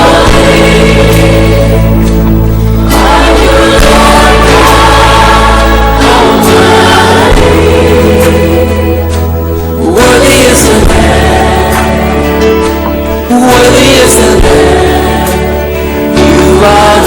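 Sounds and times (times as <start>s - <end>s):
sustained chords and bass: 0.0s - 17.0s
voices singing together: 0.0s - 17.0s.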